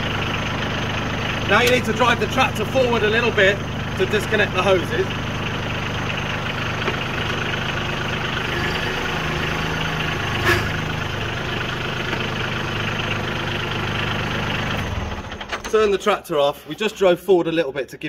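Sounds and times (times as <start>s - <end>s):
tractor diesel engine running: 0.0s - 17.6s.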